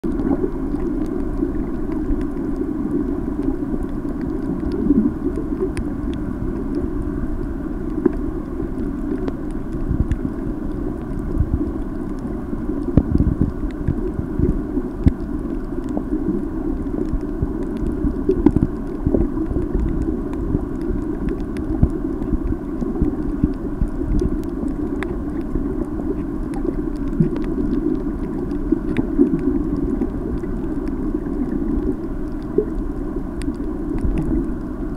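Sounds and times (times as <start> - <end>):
muffled underwater rumble: 0.0 - 34.9
faint clicks: 0.1 - 6.8, 7.8 - 34.9.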